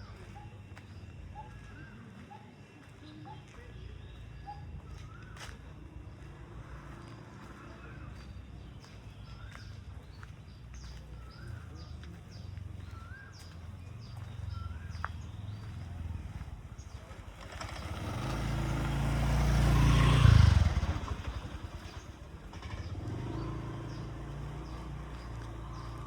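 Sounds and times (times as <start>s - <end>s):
low engine hum: 0.0s - 26.0s
vehicle passing by: 4.8s - 26.0s.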